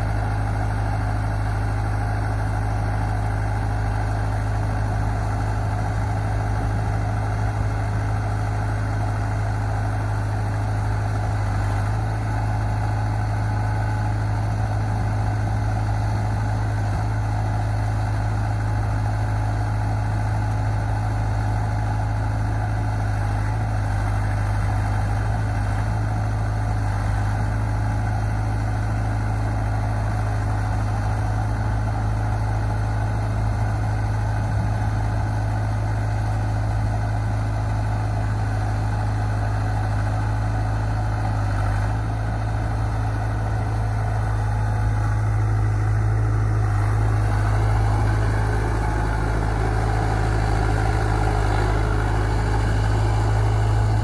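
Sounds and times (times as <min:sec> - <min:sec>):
skid steer engine idling: 0:00.0 - 0:54.0.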